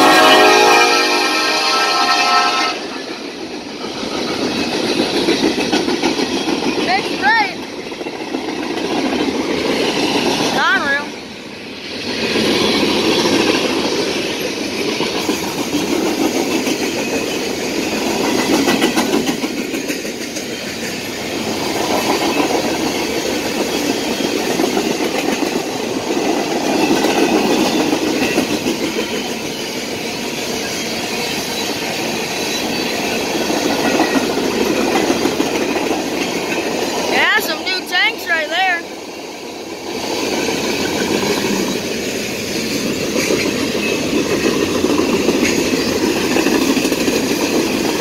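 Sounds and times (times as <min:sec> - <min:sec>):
train wheels clacking: 0:00.0 - 0:48.0
train wheels rumbling on rail: 0:00.0 - 0:48.0.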